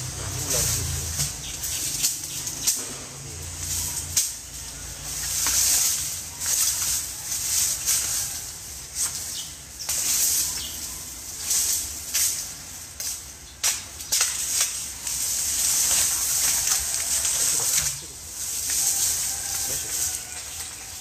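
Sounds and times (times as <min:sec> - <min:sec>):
dry leaves rustling and crackling: 0:00.0 - 0:21.0.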